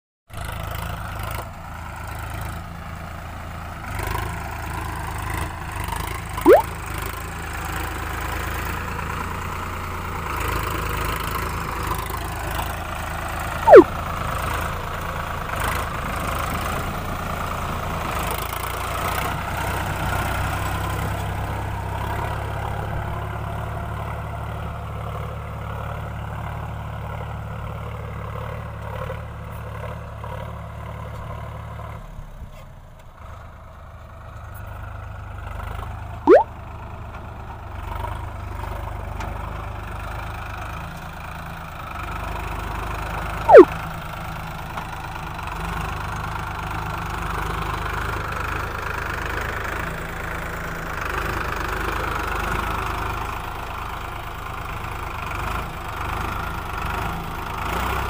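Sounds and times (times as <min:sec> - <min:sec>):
tractor diesel engine under load: 0:00.4 - 0:58.0.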